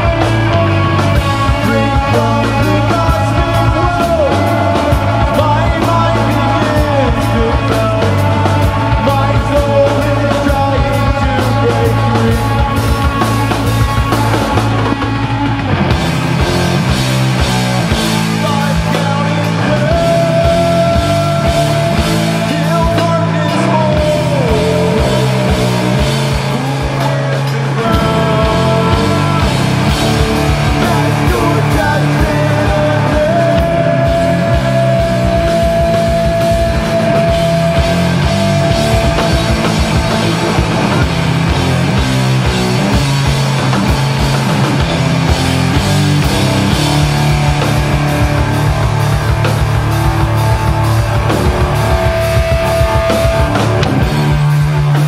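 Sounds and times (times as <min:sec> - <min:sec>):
bass guitar: 0:00.0 - 0:55.0
distorted electric guitar: 0:00.0 - 0:55.0
drum kit: 0:00.0 - 0:55.0
high lead guitar notes: 0:10.1 - 0:55.0.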